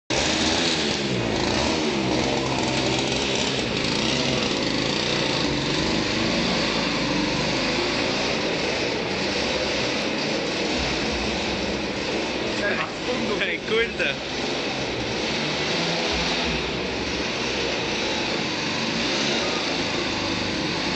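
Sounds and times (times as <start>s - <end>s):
moped engine running: 0.1s - 20.9s.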